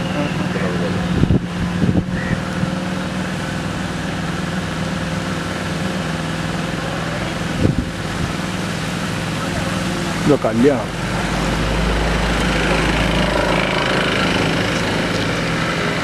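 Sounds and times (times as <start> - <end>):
small boat motor running: 0.0 - 16.0.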